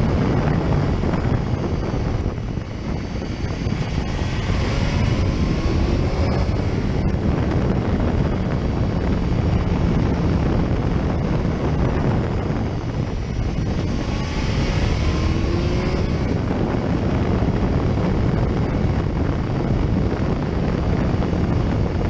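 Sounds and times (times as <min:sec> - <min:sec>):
motorcycle engine at speed: 0:00.0 - 0:22.0
wind buffeting microphone: 0:00.0 - 0:22.0.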